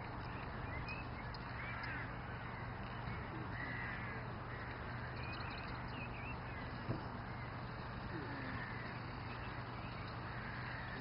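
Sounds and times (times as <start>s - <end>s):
birds calling: 0.0s - 11.0s
outdoor background noise: 0.0s - 11.0s.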